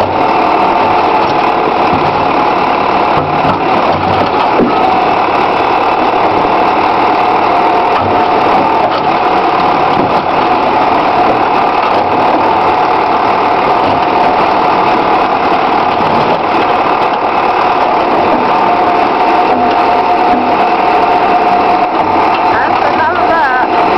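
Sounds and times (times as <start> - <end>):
diesel engine running: 0.0 - 23.9
steady whine: 0.0 - 23.9.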